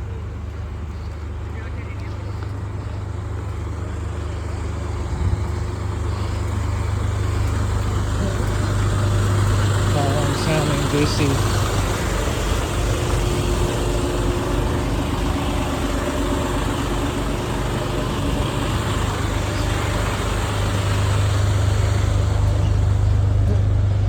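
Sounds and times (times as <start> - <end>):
heavy vehicle engine idling: 0.0 - 24.0.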